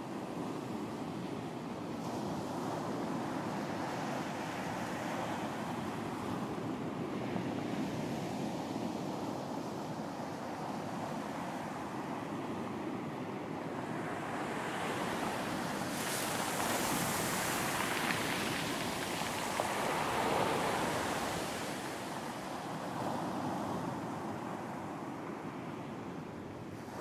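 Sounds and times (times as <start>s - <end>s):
rumble of surf: 0.0s - 27.0s.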